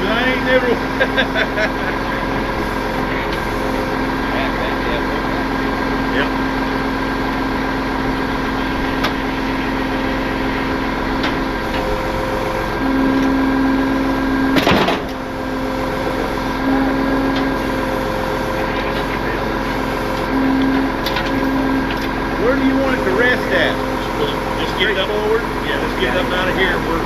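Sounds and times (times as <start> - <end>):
loud burst of noise: 0.0 - 27.0
truck engine idling: 0.0 - 27.0.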